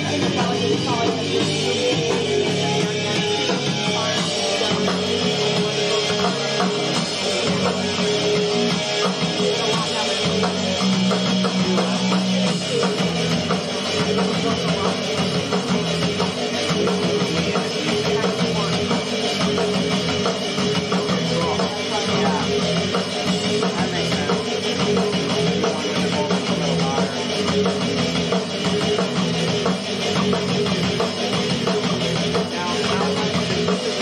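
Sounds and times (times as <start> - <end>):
punk rock band playing: 0.0 - 34.0.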